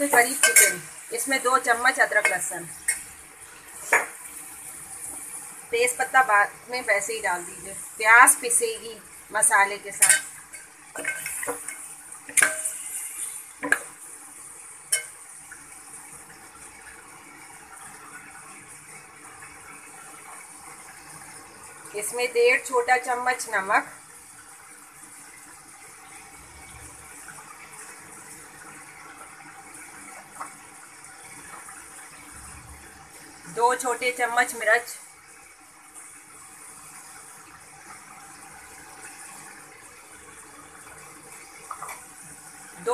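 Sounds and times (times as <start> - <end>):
chicken sizzling in hot oil: 0.0 - 42.9.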